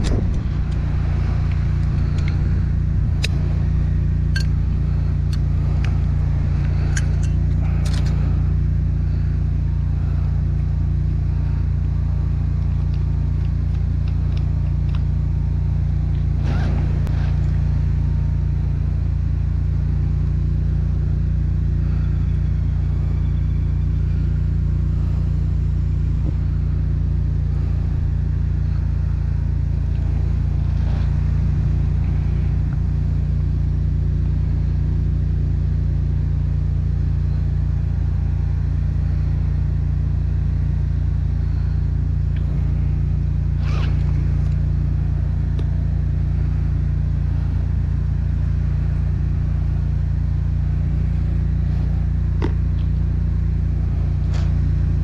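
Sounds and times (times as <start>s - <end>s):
engine idling low drone: 0.0s - 55.0s.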